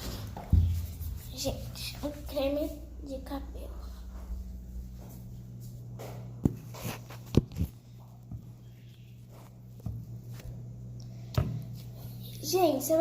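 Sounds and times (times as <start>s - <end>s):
low hum: 0.0s - 12.4s.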